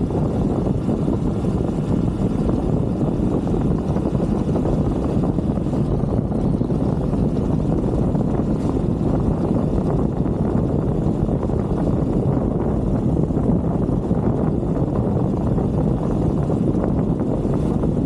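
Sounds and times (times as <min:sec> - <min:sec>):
motorbike engine rumble: 0:00.0 - 0:18.0
wind buffeting microphone: 0:00.0 - 0:18.0.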